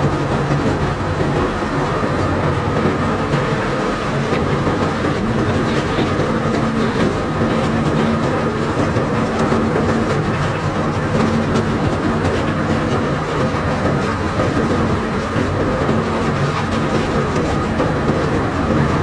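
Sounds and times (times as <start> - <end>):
conveyor carrying cobblestones: 0.0 - 19.0
low machinery hum: 0.0 - 19.0.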